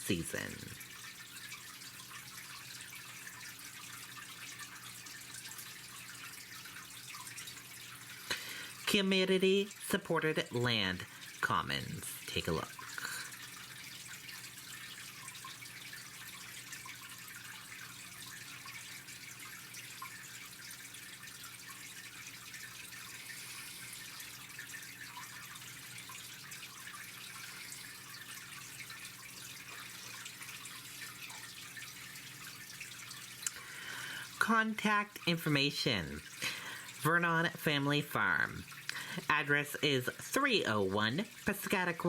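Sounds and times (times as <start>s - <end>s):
faint electrical hum: 0.0s - 42.0s.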